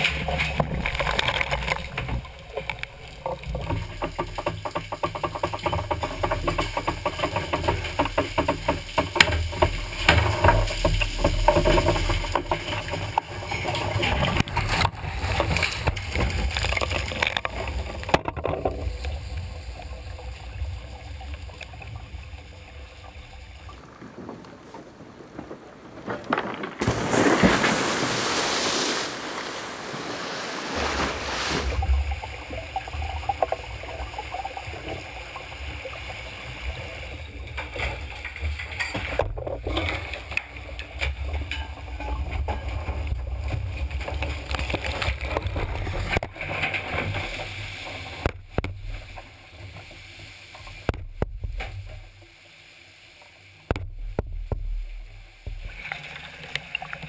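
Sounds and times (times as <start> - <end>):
water gurgling and dripping: 0.0 - 25.6, 26.8 - 57.0
seawater splashing around hull: 0.0 - 57.0.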